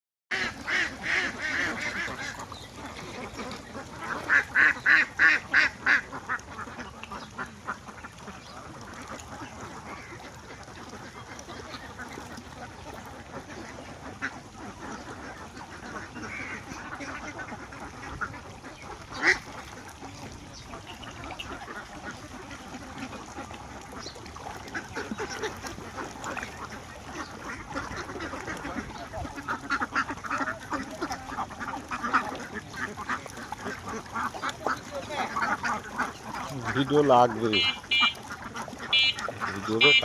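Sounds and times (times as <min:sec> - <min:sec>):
ducks quacking: 0:00.3 - 0:40.0.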